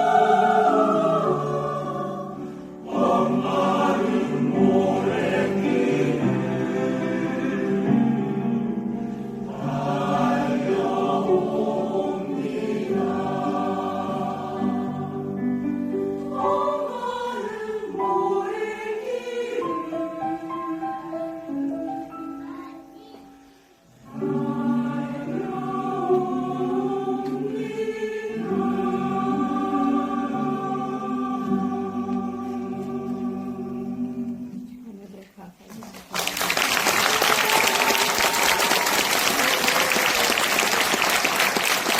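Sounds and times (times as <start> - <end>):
choir singing: 0.0 - 22.6, 23.9 - 34.9, 36.8 - 41.9.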